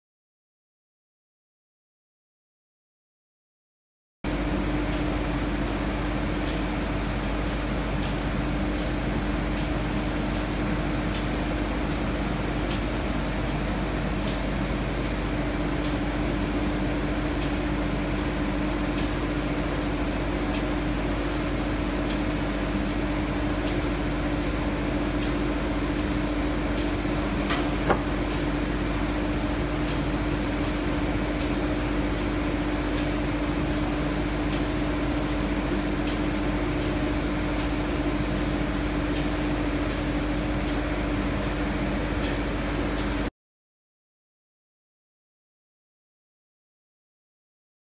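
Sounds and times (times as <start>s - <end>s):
workshop machinery drone: 4.3s - 43.3s.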